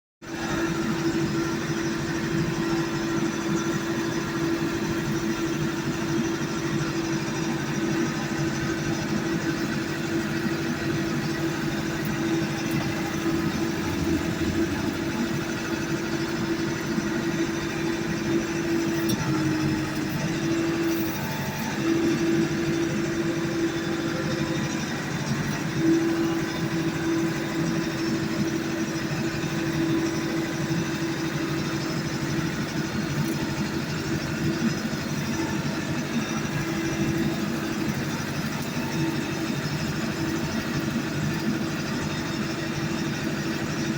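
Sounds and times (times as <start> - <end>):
motor hum: 0.5 - 43.9.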